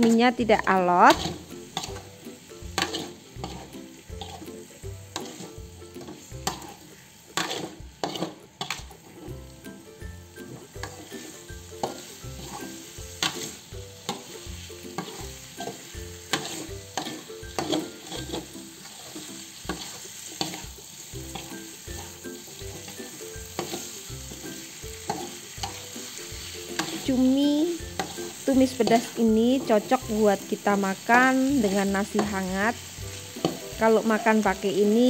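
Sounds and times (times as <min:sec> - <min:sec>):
metal spatula scraping a wok: 0:00.0 - 0:09.6, 0:10.4 - 0:30.7, 0:31.4 - 0:35.0
stir-fry sizzling in a wok: 0:00.0 - 0:35.0.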